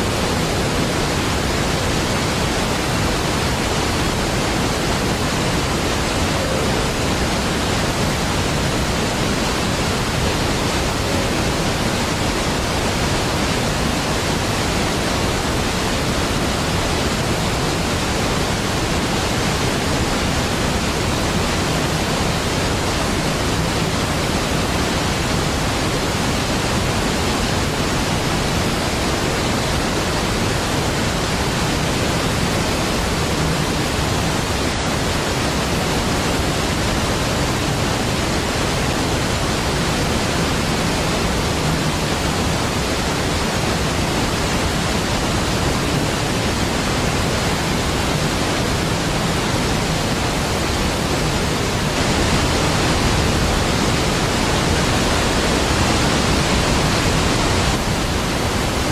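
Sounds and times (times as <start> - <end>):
large waterfall pouring: 0.0 - 58.9.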